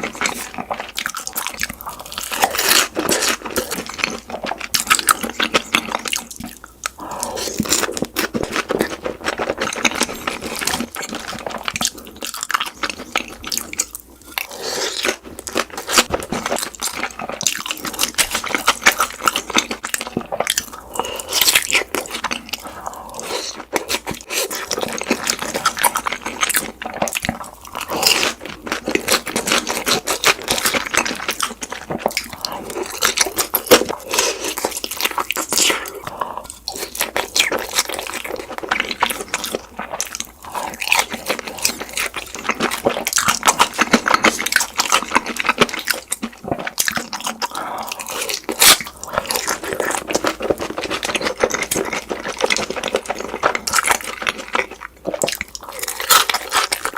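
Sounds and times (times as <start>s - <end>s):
crunching and chewing crisp food: 0.0s - 56.9s.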